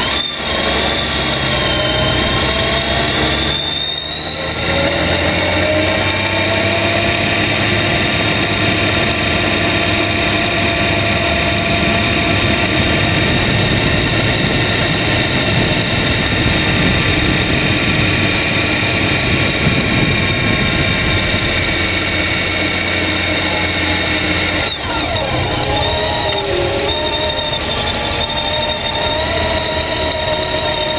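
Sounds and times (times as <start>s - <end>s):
motorcycle engine with high whine: 0.0s - 30.9s.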